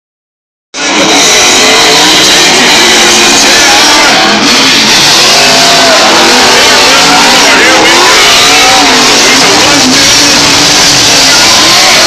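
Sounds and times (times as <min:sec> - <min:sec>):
car engines revving hard: 0:00.8 - 0:12.0
crowd voices: 0:00.8 - 0:12.0.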